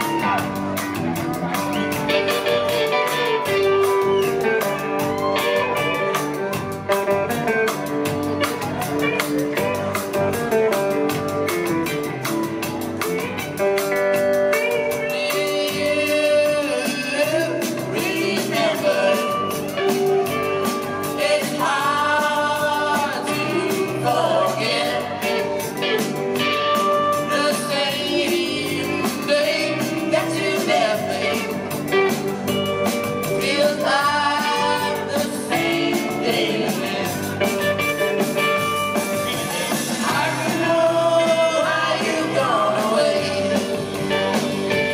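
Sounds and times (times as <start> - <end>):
electric guitars: 0.0 - 44.9
person singing lead vocals: 0.0 - 44.9
steady drum beat: 0.0 - 44.9.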